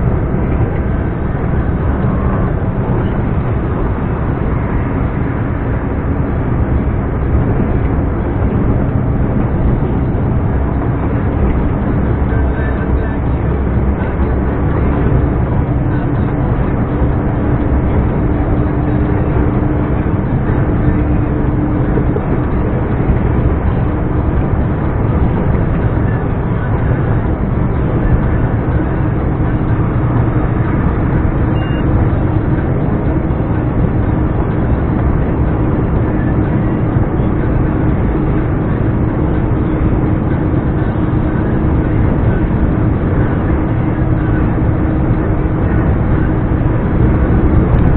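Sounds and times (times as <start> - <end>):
diesel truck engine droning: 0.0 - 47.9.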